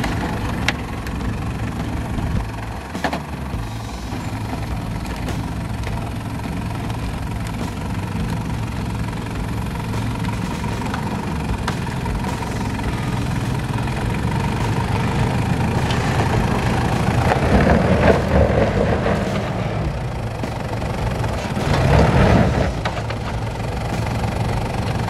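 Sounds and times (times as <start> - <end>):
engine running at low revs: 0.0 - 25.0
tyres on loose dirt and stones: 0.0 - 25.0.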